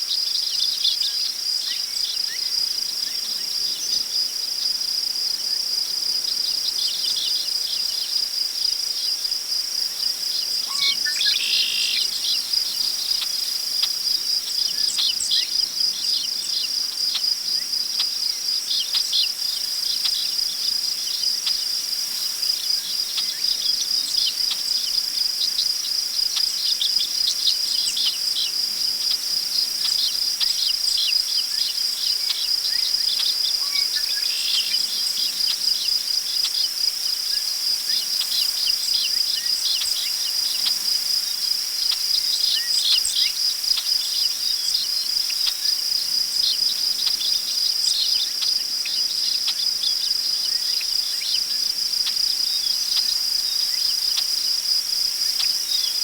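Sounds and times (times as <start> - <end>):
crickets trilling: 0.1 - 56.0.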